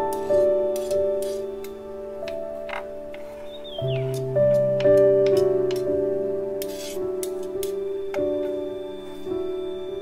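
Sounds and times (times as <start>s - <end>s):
soft keyboard music: 0.0s - 10.0s.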